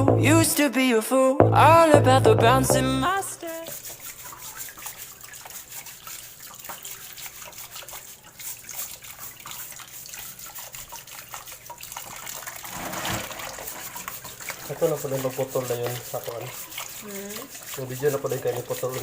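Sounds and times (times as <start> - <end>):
water running and splashing: 3.4 - 19.0
small clicks and drips: 3.7 - 19.0.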